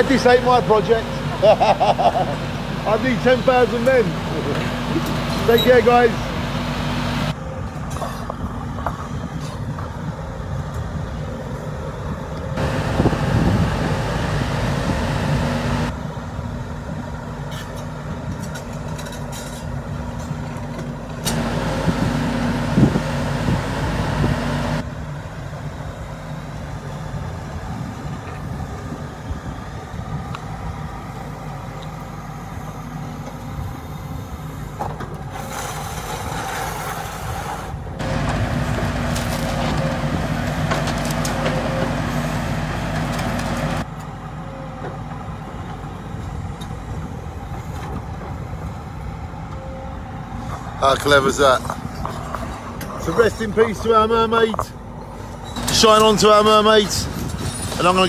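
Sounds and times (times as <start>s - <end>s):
excavator diesel engine running: 0.0s - 36.6s, 37.7s - 58.0s.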